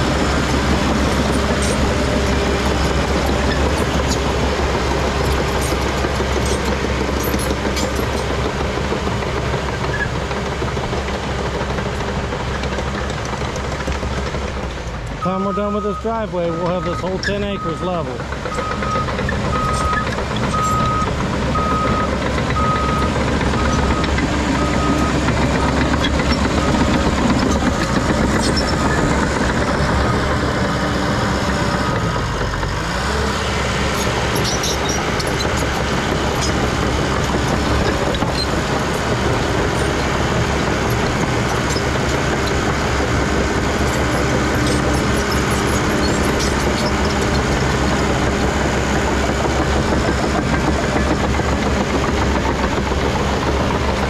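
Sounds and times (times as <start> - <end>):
dozer diesel engine running: 0.0 - 54.0.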